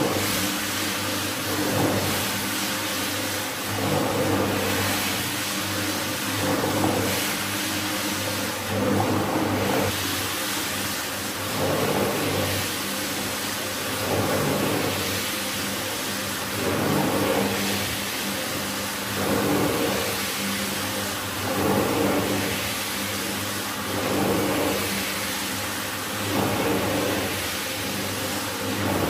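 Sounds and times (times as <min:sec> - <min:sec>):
rug cleaning machine motor: 0:00.0 - 0:29.0.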